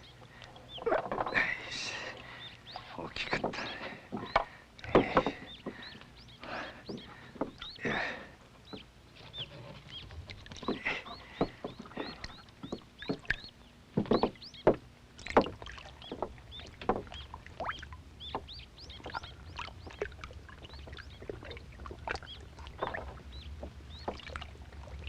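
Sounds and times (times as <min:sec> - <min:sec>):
low steady hum: 0:00.0 - 0:25.0
water splashing and lapping: 0:00.0 - 0:25.0.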